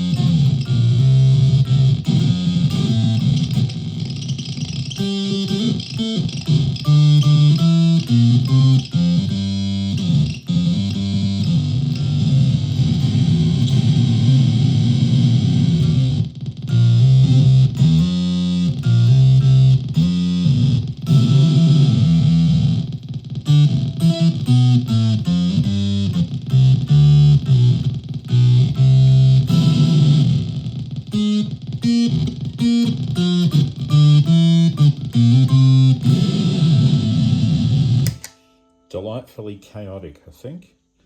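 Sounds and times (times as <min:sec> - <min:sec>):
effected electric ukulele: 0:00.0 - 0:39.1.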